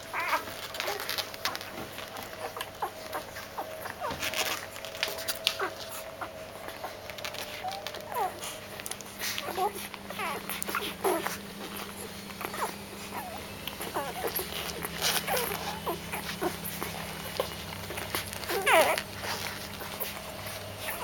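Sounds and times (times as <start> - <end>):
low steady hum: 0.0 - 21.0
puppies squeaking and whimpering: 0.0 - 21.0.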